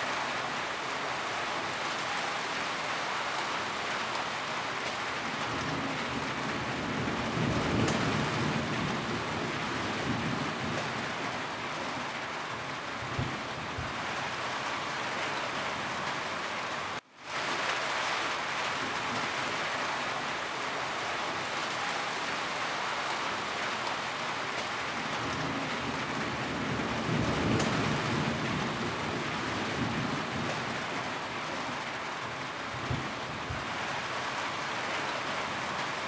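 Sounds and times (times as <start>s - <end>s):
rain falling on a roof: 0.0s - 36.0s.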